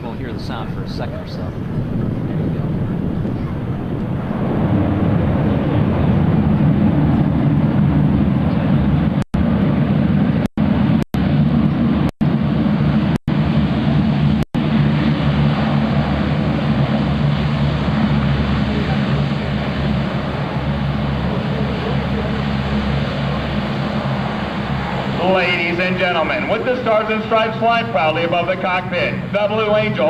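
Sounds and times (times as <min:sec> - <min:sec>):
propeller engines droning: 0:00.0 - 0:30.0.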